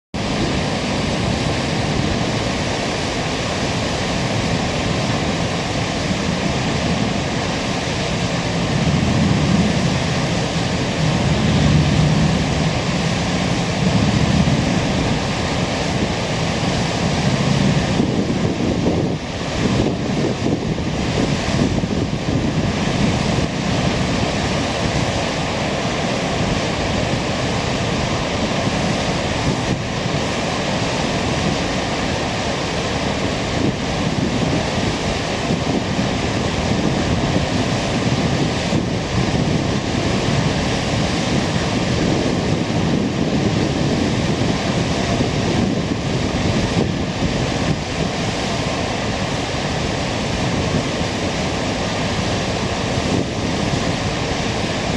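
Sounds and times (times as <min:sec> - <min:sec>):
wind noise on microphone: 0:00.2 - 0:54.9.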